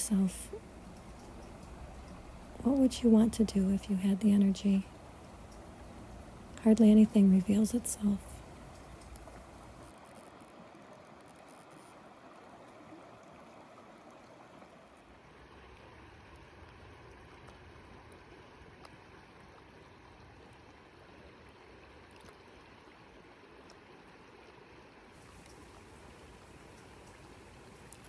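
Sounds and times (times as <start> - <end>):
flowing stream: 0.0 - 28.0.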